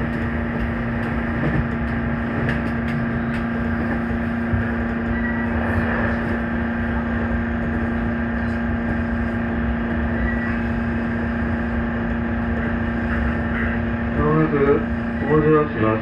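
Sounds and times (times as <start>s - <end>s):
steady electric hum: 0.0s - 16.0s
train wheels rumbling on rail: 0.0s - 16.0s.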